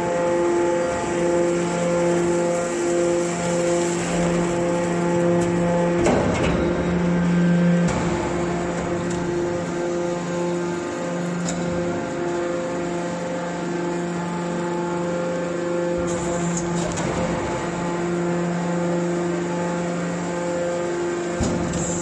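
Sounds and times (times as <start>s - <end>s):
hydraulic pump motor humming: 0.0s - 22.0s.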